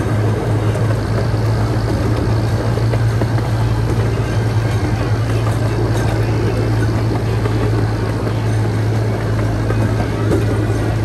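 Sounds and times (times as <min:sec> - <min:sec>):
low train engine drone: 0:00.0 - 0:11.0
train wheels rattling on rails: 0:00.0 - 0:11.0.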